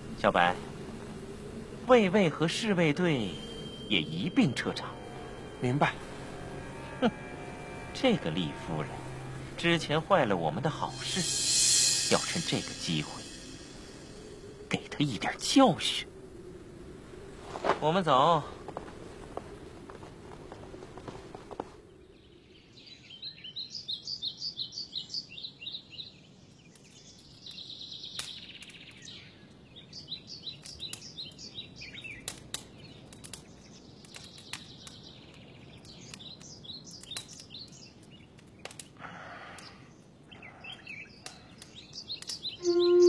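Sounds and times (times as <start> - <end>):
small birds chirping in trills: 0.0 - 16.1, 21.9 - 43.0.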